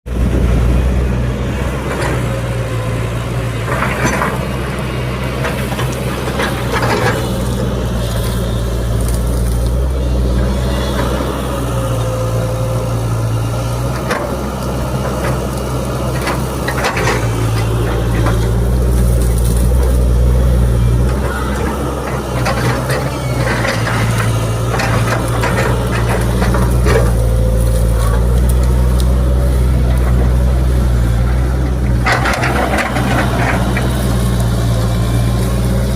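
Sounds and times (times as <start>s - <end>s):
excavator diesel engine running: 0.1s - 35.9s.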